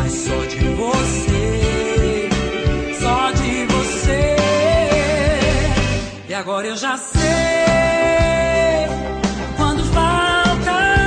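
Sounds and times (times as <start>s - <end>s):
accompaniment with slow beat: 0.0s - 6.3s, 7.2s - 11.0s
pop ballad singing: 0.0s - 11.0s.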